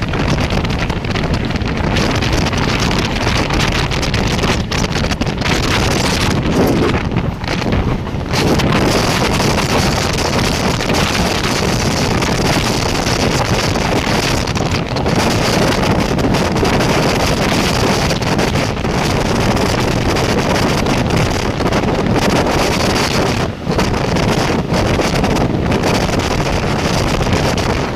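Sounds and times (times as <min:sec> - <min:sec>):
train running noise: 0:00.0 - 0:27.9
wind buffeting microphone: 0:00.0 - 0:27.9.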